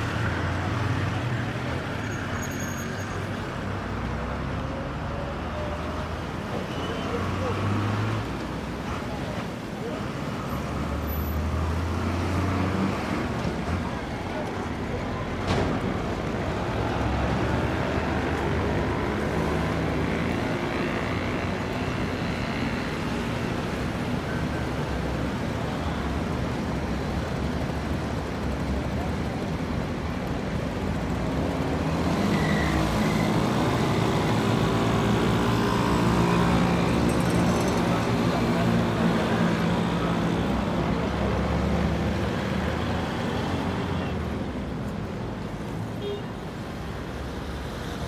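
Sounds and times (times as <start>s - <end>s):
street traffic: 0.0s - 48.0s.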